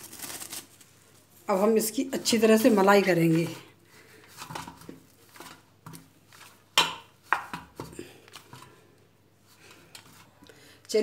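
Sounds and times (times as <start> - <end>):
dough kneaded in a steel bowl: 1.2 - 11.0.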